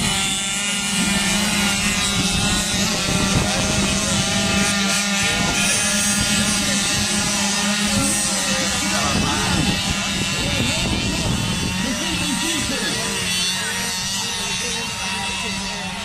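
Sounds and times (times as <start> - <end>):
dirt bike engines droning: 0.0 - 16.0.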